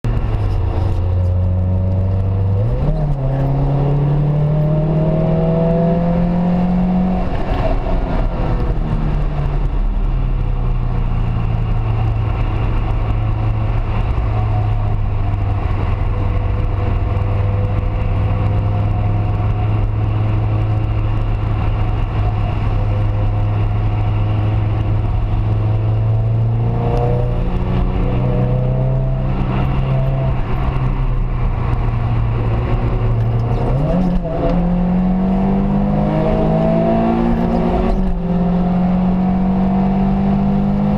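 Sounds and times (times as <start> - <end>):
road noise: 0.0 - 40.9
car engine revving: 0.1 - 40.9.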